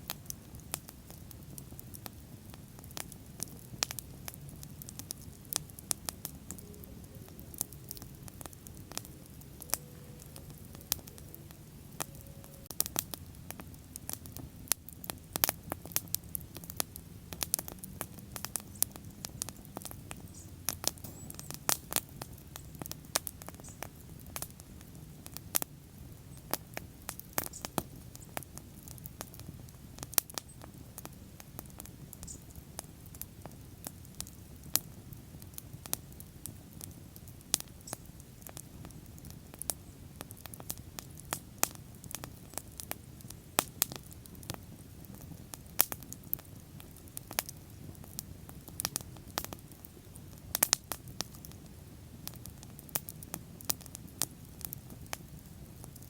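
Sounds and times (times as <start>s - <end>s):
bonfire pops and snaps: 0.0s - 56.0s
low rush of burning fire: 0.0s - 56.0s.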